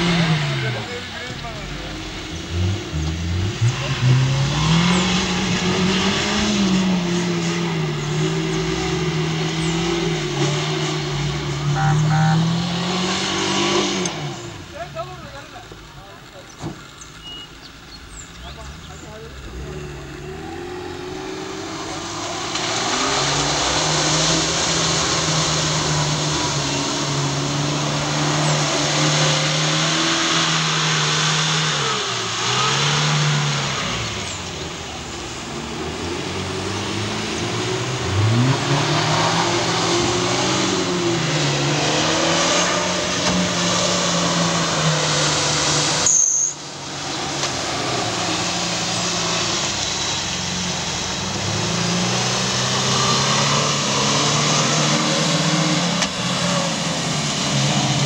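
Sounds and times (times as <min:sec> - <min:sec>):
off-road engines revving: 0:00.0 - 0:58.0
splashing water and tyres: 0:00.0 - 0:58.0.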